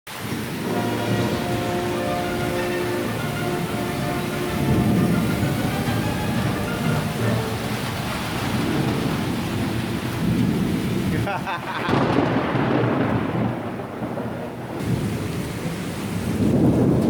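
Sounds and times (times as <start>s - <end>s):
heavy rain pouring: 0.1s - 17.0s
low thunder rumble: 0.2s - 17.0s.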